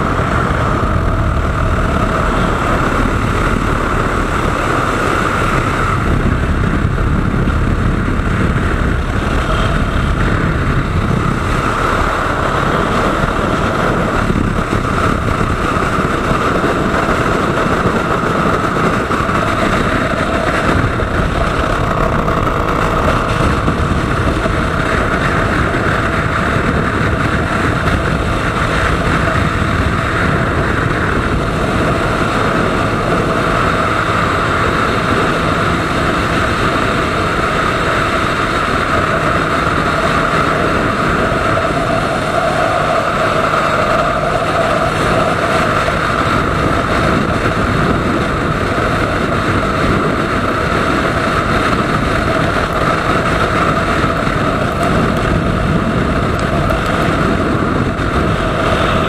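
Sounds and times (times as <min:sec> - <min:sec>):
motorcycle engine and road noise: 0:00.0 - 0:59.0.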